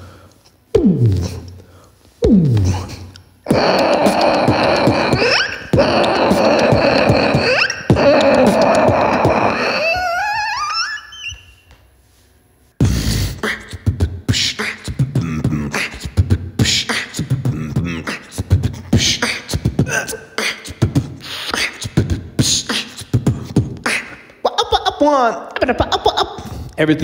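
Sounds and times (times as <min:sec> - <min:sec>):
rising vocal glide: 0:00.7 - 0:11.4, 0:12.8 - 0:24.3
beatbox rhythm: 0:00.7 - 0:11.5, 0:12.8 - 0:26.8.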